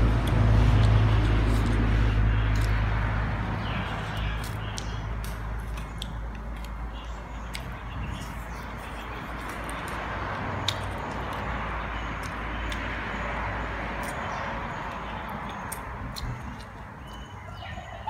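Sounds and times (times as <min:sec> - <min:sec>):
chewing crunchy food: 0:00.0 - 0:18.0.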